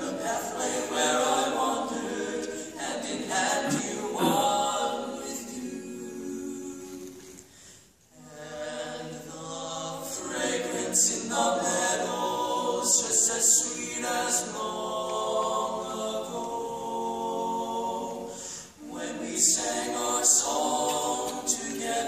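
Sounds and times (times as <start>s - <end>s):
male quartet singing a cappella: 0.0s - 22.0s.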